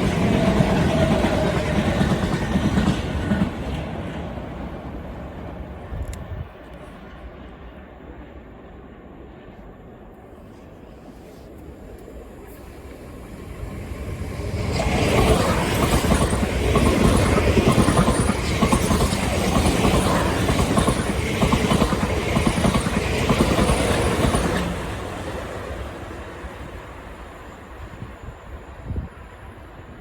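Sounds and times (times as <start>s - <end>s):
train wheels rumbling on rails: 0.0s - 7.7s, 11.5s - 30.0s.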